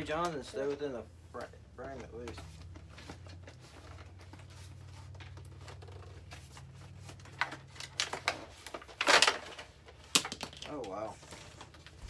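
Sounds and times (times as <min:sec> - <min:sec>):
packaging clicking and rustling: 0:01.9 - 0:12.0.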